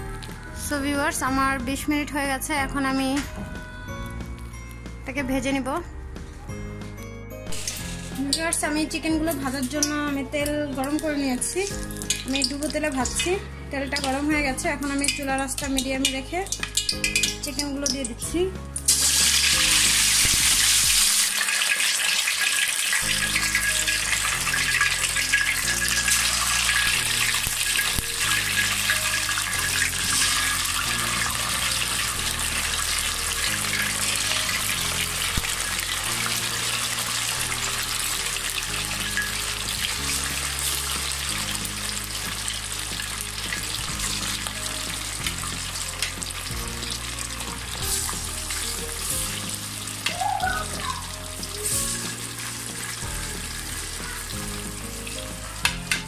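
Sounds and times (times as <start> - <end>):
background music: 0.0 - 56.0
chicken deep-frying in oil: 10.8 - 56.0.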